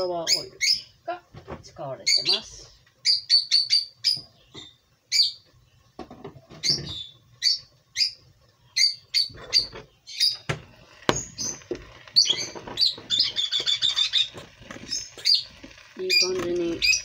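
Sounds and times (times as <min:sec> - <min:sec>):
small bird chirping: 0:00.0 - 0:01.0, 0:02.0 - 0:05.9, 0:06.5 - 0:17.0.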